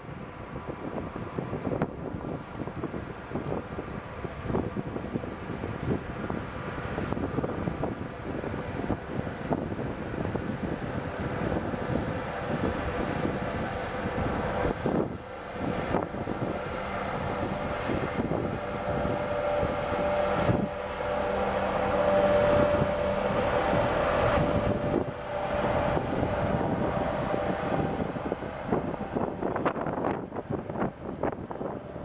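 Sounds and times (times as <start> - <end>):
ship machinery drone: 0.0 - 32.0
wind rumbling on microphone: 0.0 - 32.0.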